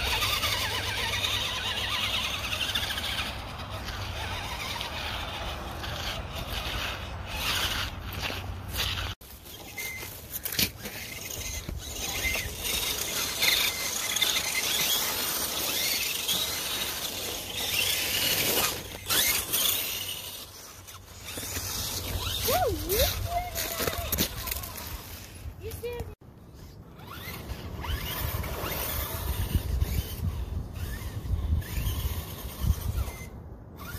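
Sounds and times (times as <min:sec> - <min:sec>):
electric motors whining: 0:00.0 - 0:33.9
tyres crunching on snow: 0:00.0 - 0:33.9.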